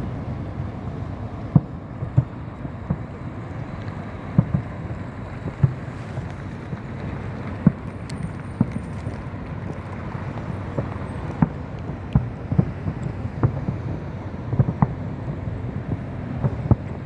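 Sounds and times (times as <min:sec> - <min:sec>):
wind rumble on microphone: 0:00.0 - 0:17.0
distant fireworks popping and banging: 0:01.0 - 0:17.0.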